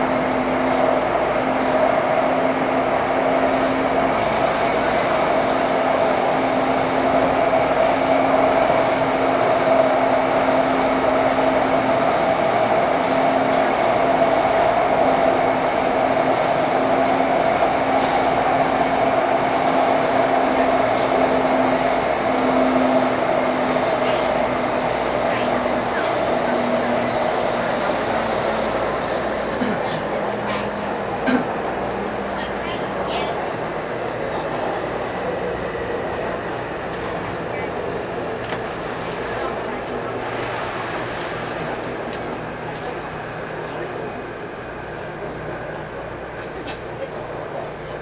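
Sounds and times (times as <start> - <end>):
train motor hum: 0.0 - 48.0
train wheels rumbling on rail: 0.0 - 48.0.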